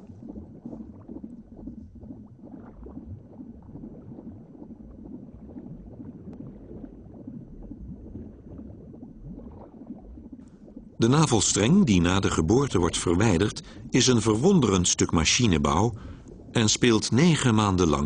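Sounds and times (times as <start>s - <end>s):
liquid bubbling and gurgling: 0.0s - 18.0s.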